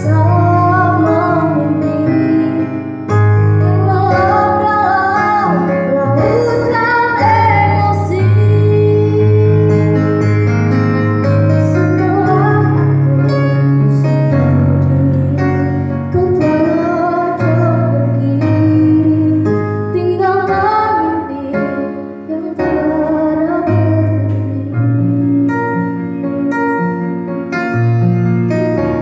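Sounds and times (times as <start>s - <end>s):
woman singing: 0.0s - 10.4s, 11.6s - 27.1s.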